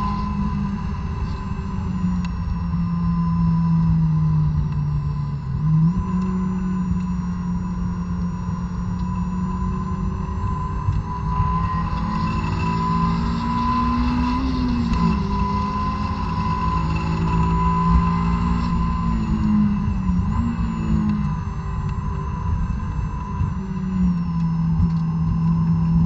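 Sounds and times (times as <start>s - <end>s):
car engine revving at full throttle: 0.0s - 26.0s.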